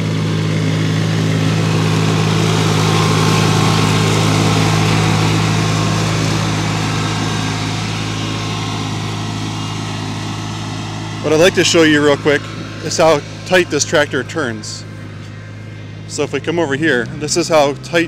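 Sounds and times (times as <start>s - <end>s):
mower blades cutting grass: 0.0s - 18.0s
tractor diesel engine running: 0.0s - 18.0s.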